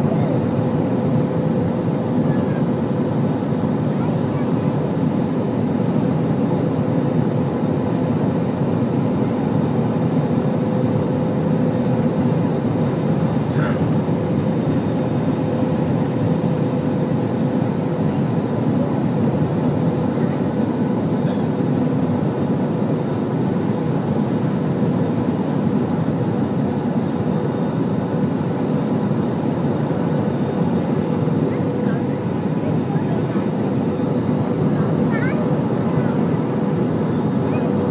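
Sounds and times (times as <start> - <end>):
airliner cabin rumble: 0.0 - 37.9
constant hum: 0.0 - 37.9.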